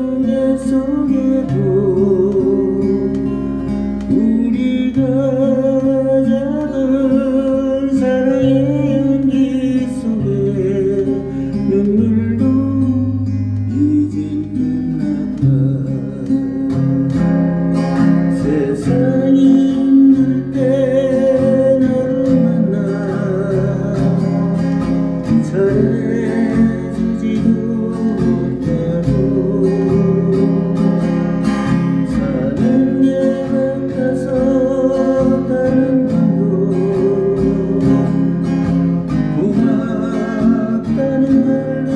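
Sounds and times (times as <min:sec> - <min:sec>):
acoustic guitar ballad: 0:00.0 - 0:41.9.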